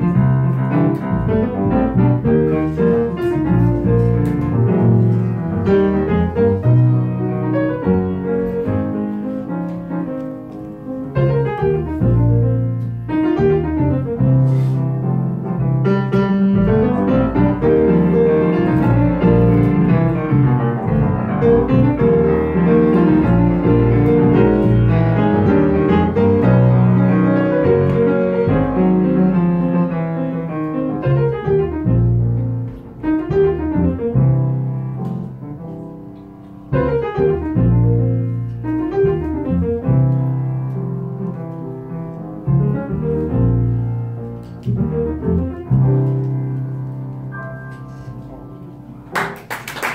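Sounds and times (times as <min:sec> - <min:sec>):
piano playing chords: 0:00.0 - 0:49.9.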